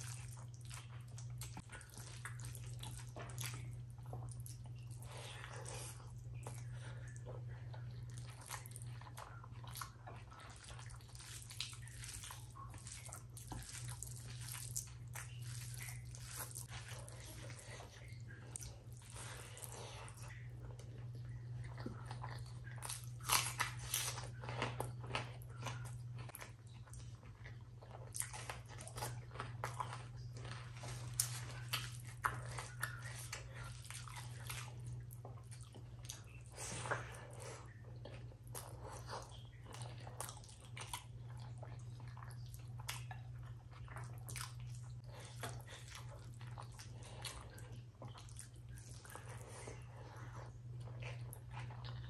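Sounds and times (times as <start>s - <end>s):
steady low hum: 0.0s - 52.0s
wet chewing and lip smacks: 0.0s - 52.0s.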